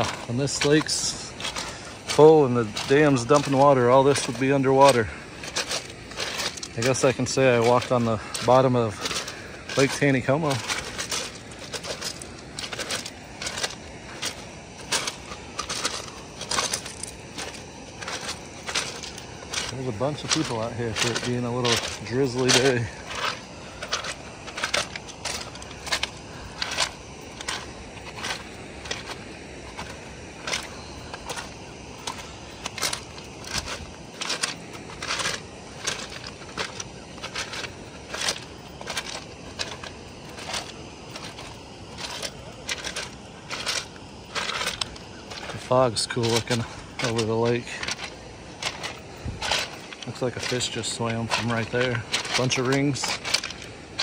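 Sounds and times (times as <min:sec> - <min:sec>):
footsteps crunching on gravel: 0:00.0 - 0:54.0.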